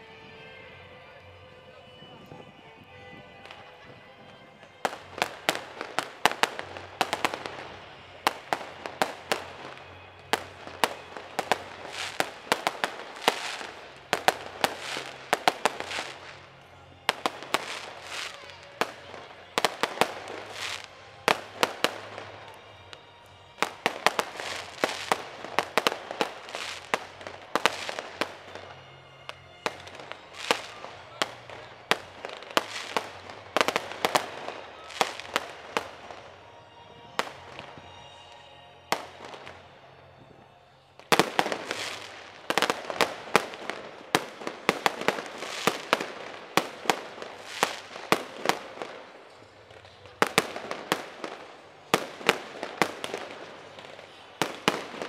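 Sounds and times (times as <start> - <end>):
fireworks bangs and crackles: 3.4 - 36.4, 37.1 - 38.2, 38.9 - 39.7, 41.0 - 55.0.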